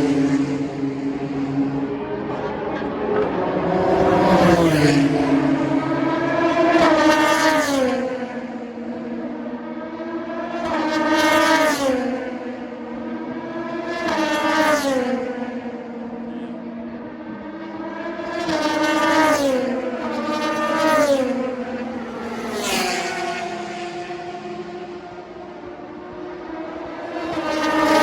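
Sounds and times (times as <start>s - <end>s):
race cars passing at speed: 0.0s - 28.0s.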